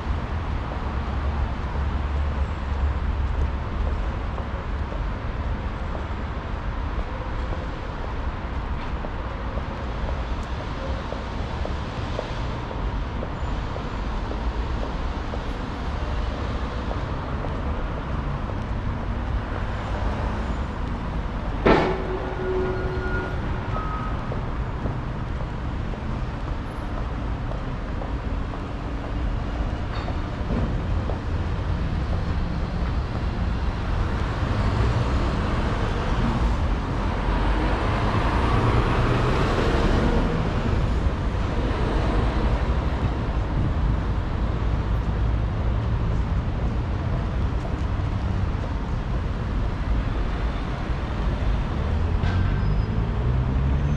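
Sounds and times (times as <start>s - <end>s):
traffic rumble: 0.0s - 53.9s.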